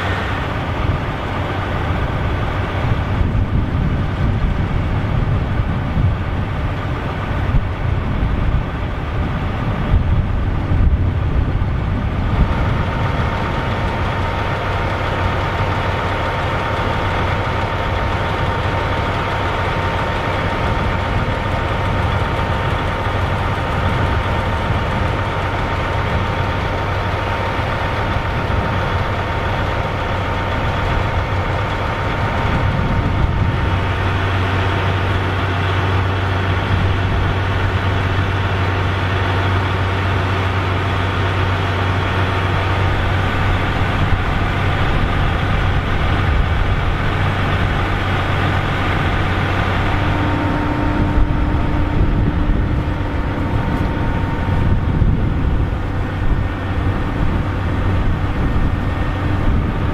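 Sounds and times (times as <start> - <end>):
engine deep hum: 0.0 - 59.9
thin steady whine: 0.0 - 59.9.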